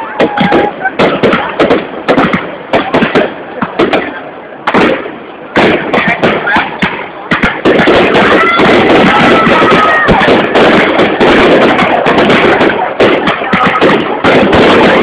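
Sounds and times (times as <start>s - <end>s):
fireworks crackling and popping: 0.0s - 15.0s
whistling fireworks: 0.0s - 15.0s.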